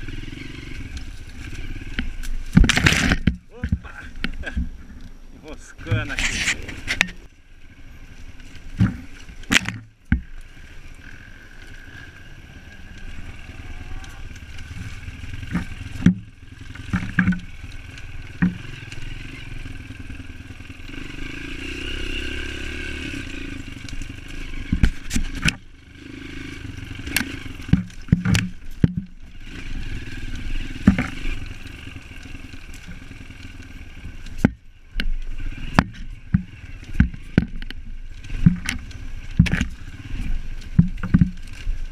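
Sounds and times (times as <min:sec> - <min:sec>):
bike knocking and rattling over bumps: 0:00.0 - 0:41.9
dirt bike engine: 0:00.0 - 0:41.9.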